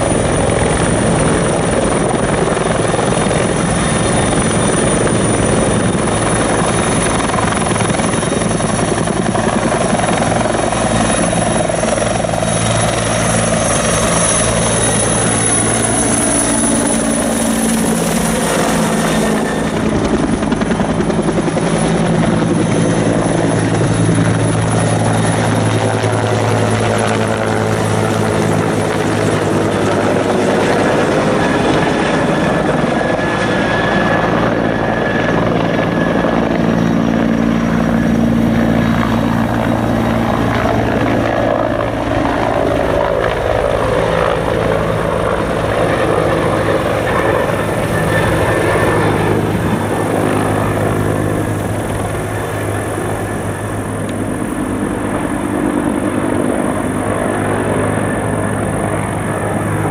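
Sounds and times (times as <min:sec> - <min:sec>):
helicopter rotor and turbine: 0:00.0 - 0:59.9.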